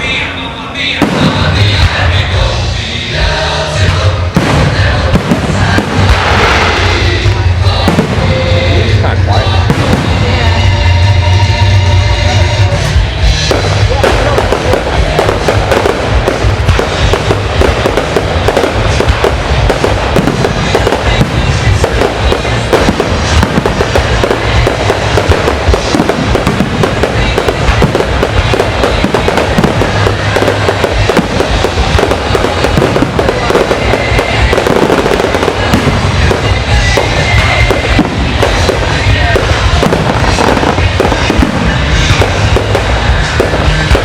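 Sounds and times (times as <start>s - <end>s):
fireworks banging and crackling: 0.0s - 44.0s
music: 0.0s - 44.0s.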